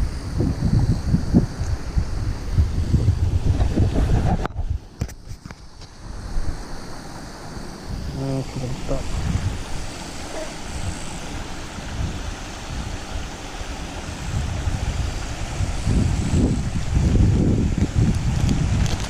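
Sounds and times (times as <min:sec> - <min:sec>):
faint steady hiss: 0:00.0 - 0:19.0
wind buffeting microphone: 0:00.0 - 0:19.0.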